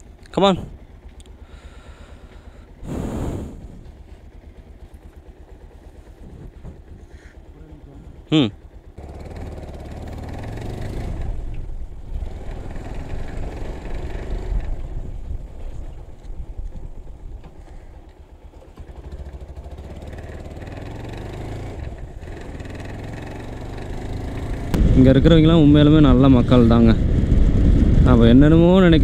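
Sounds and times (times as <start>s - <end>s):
motorcycle engine rumble: 0.0s - 29.0s.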